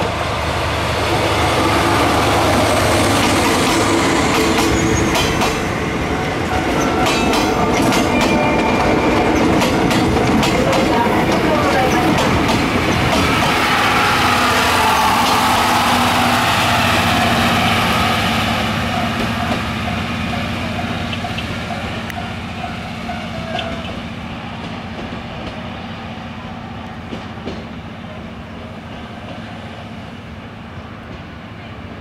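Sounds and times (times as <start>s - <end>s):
train coaches rolling on rails: 0.0s - 32.0s.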